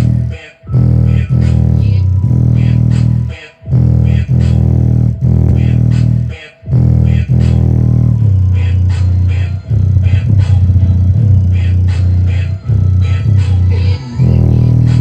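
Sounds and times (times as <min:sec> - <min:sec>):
song with heavy bass and beat: 0:00.0 - 0:15.0.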